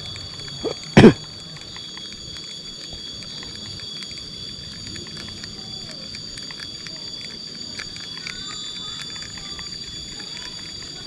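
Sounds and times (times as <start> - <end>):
faint ticks: 0.0 - 11.0
insects chirping: 0.0 - 11.0.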